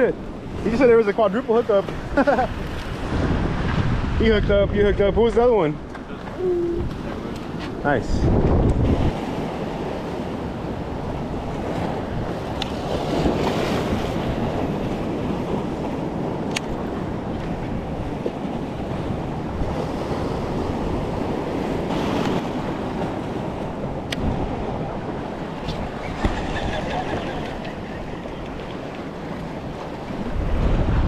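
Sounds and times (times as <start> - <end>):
ocean surf breaking on rocks: 0.0 - 31.0
wind buffeting microphone: 0.0 - 31.0.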